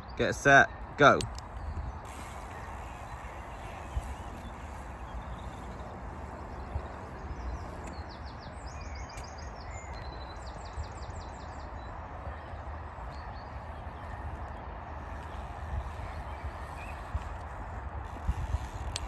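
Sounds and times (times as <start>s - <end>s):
small bird chirping: 1.6s - 17.6s.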